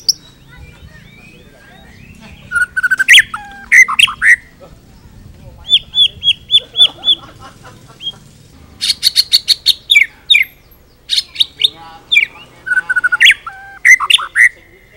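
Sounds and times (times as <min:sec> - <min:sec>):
songbird singing whistles: 0:00.0 - 0:07.2, 0:08.8 - 0:14.7.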